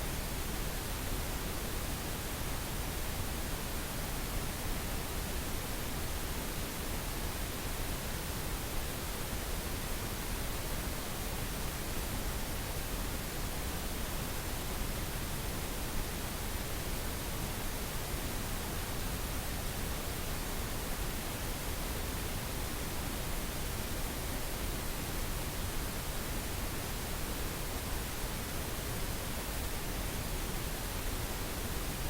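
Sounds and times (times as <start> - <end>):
pink noise hiss: 0.0 - 32.0.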